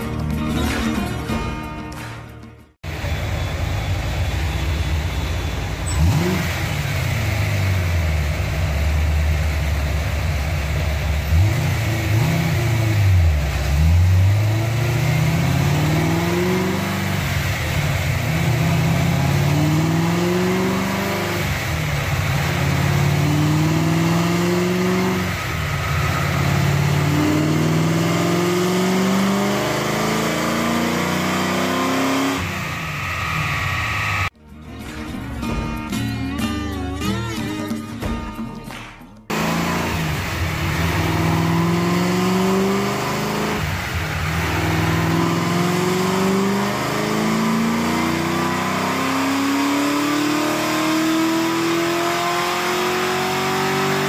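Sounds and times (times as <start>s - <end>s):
car engine revving on a dyno: 2.9s - 34.3s, 39.3s - 54.0s.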